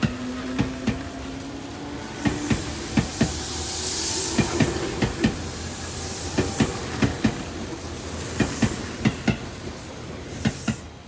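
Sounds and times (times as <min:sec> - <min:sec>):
train wheels clacking over rail joints: 0:00.0 - 0:01.5, 0:02.2 - 0:03.4, 0:04.3 - 0:10.9
train running noise: 0:00.0 - 0:11.0.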